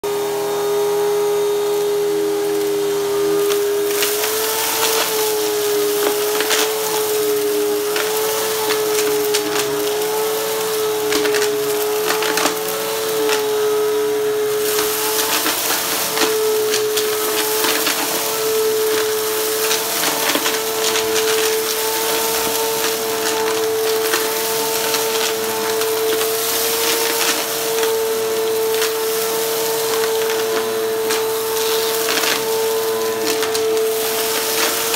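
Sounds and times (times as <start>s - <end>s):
vacuum cleaner motor whine: 0.0s - 34.9s.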